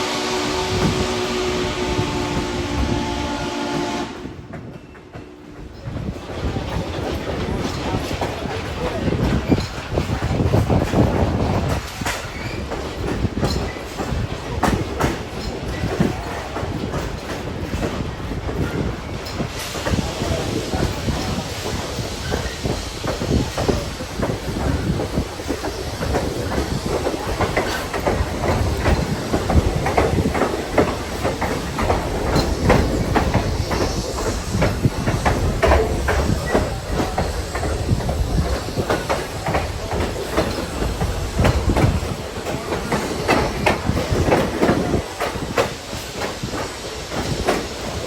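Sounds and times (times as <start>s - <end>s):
train rolling on track: 0.0s - 48.0s.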